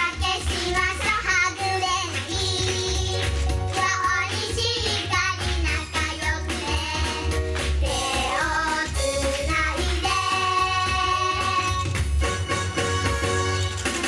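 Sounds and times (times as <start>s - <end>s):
girls singing pop song: 0.0s - 12.2s.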